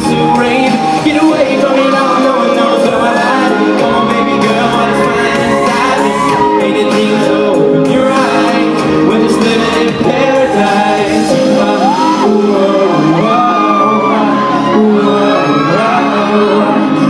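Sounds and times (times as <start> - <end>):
live pop music: 0.0 - 17.0
person singing into microphone: 0.0 - 17.0.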